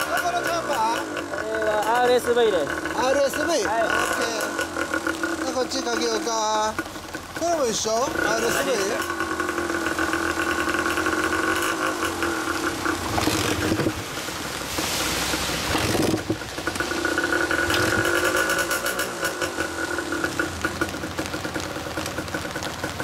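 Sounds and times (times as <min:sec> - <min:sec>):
two-stroke engine idling: 0:00.0 - 0:23.0.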